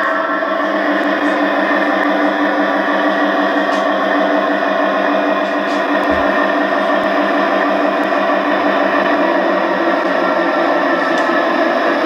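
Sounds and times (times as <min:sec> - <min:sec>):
model diesel locomotive engine sound: 0:00.0 - 0:12.0.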